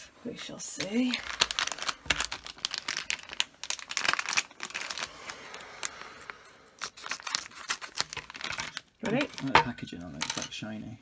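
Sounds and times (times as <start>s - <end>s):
foil bag crinkling: 0.8s - 10.5s.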